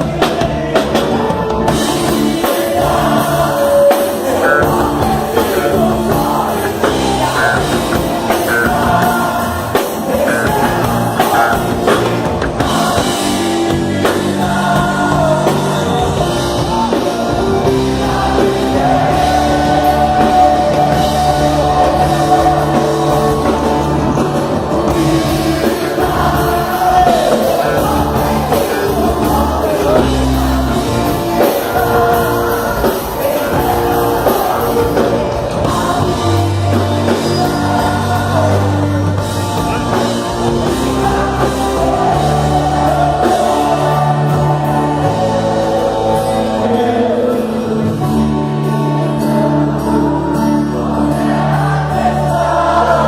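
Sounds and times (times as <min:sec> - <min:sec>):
lead singer singing: 0:00.0 - 0:53.0
live rock band playing: 0:00.0 - 0:53.0.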